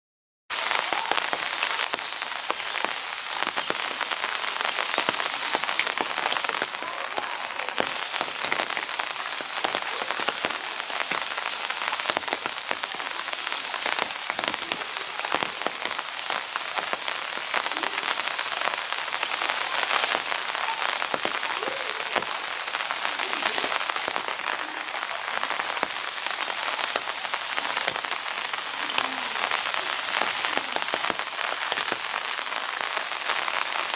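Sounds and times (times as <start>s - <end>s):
steady rain on hard surfaces: 0.5s - 33.9s.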